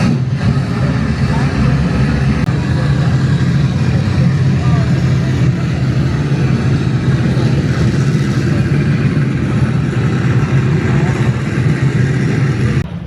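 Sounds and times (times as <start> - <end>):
drag racing engine idling roughly: 0.0 - 13.0.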